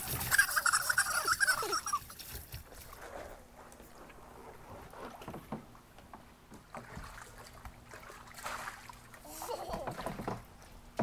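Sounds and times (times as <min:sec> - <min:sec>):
water sloshing in plastic pool: 0:00.0 - 0:11.0.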